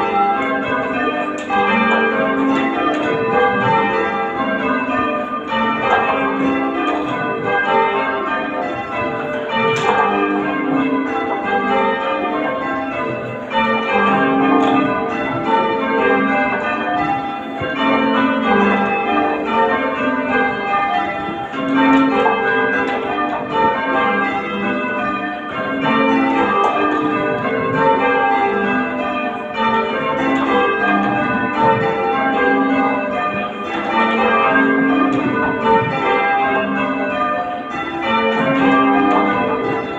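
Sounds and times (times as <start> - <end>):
church tower bells ringing: 0.0 - 39.9.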